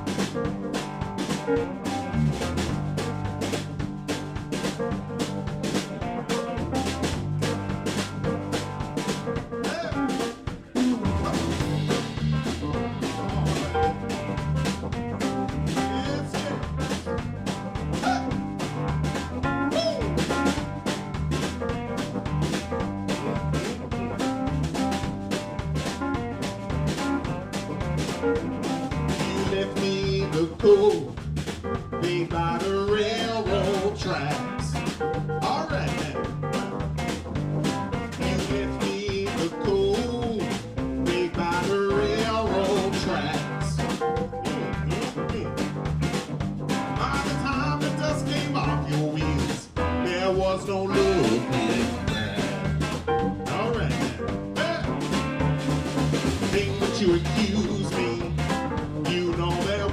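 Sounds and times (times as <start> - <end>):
blues band playing: 0.0 - 59.9
even drum beat: 0.0 - 59.9
steady bass notes: 0.0 - 59.9.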